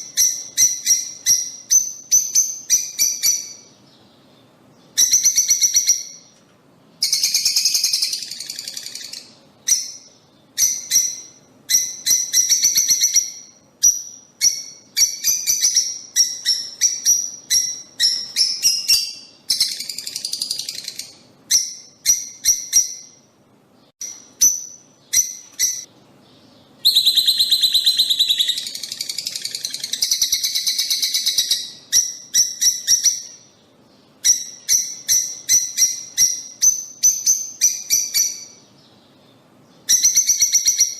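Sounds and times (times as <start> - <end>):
lovebirds chirping: 0.0 - 40.9.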